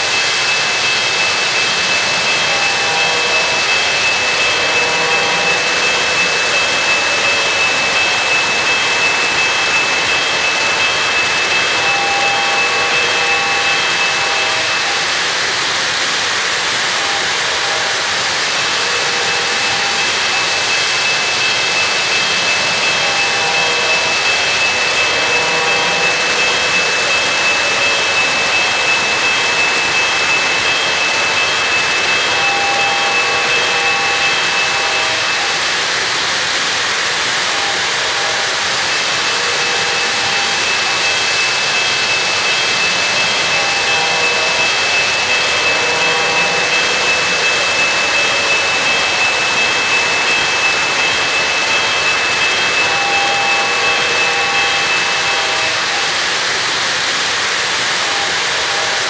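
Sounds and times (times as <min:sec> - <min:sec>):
high whine: 0:00.0 - 0:59.0
model train wheels rumbling: 0:00.0 - 0:59.0.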